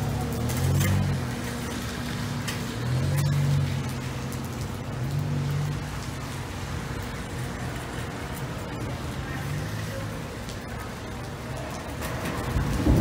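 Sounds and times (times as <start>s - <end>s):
cars driving past: 0.0s - 13.0s
rain on wet pavement: 0.0s - 13.0s.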